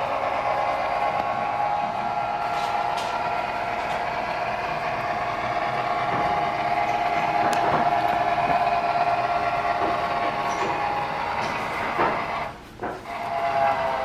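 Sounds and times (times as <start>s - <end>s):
model train motor whine: 0.0s - 14.0s.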